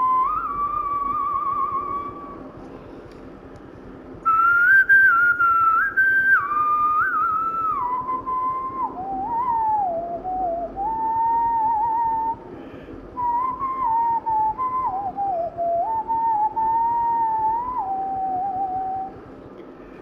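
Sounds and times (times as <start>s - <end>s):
person whistling a melody: 0.0s - 2.4s, 4.3s - 12.4s, 13.2s - 19.2s.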